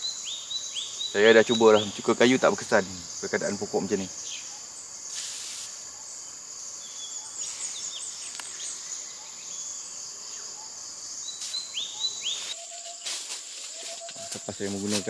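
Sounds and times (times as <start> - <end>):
bird chirping: 0.0 - 13.1
insects chorus: 0.0 - 15.0.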